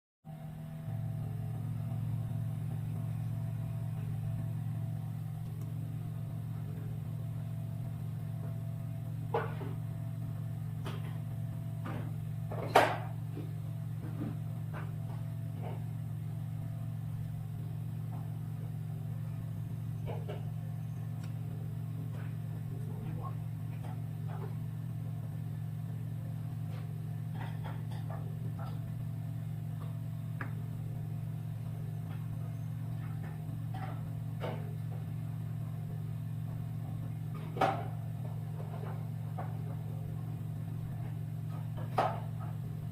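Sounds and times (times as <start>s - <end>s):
repair equipment humming: 0.3s - 42.9s.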